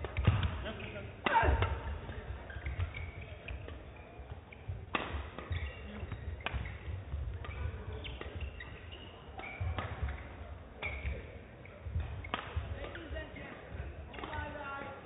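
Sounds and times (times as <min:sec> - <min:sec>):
rackets hitting shuttlecock: 0:00.0 - 0:14.6.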